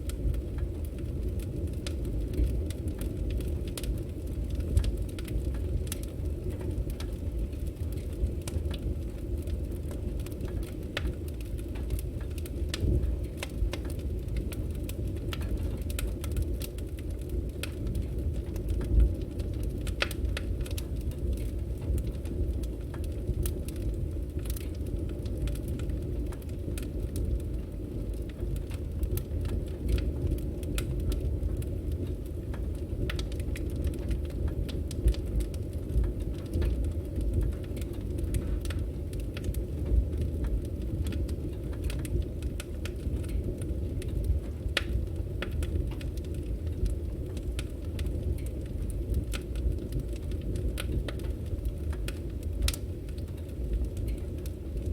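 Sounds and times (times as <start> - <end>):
firewood burning with crackles: 0.0 - 54.9.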